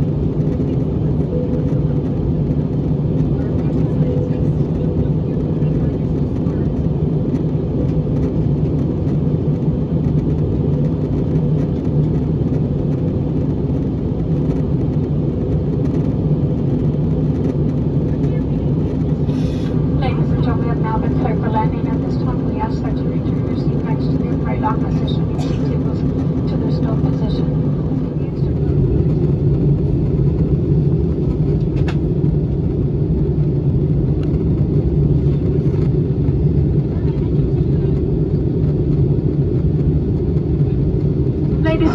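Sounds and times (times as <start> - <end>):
airplane cabin drone: 0.0 - 41.9.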